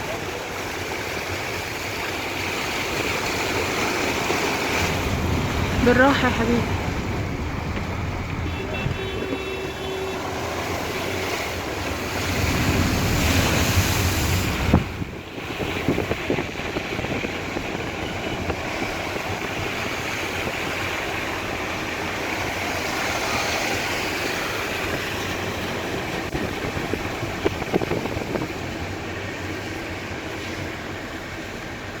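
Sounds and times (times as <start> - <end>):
vehicle noise: 0.0 - 32.0
water rushing against car: 0.0 - 32.0.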